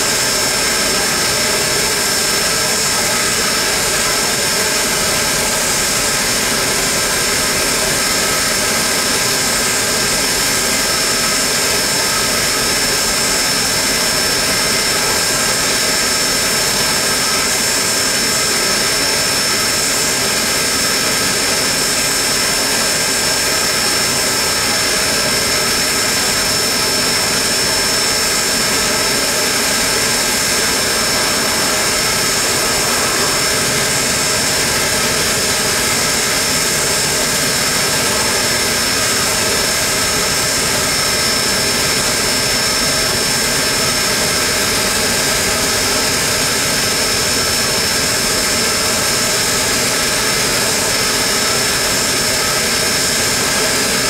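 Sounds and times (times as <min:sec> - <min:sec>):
steam hissing: 0:00.0 - 0:47.4
constant high whine: 0:00.0 - 0:54.0.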